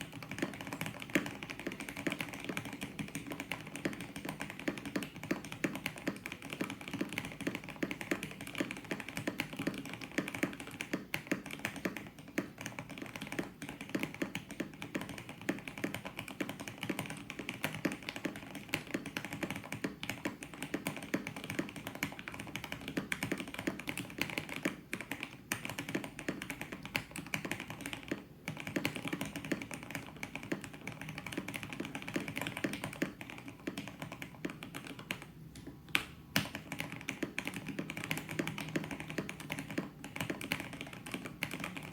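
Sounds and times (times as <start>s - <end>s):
fast mechanical keyboard typing: 0.0s - 41.9s.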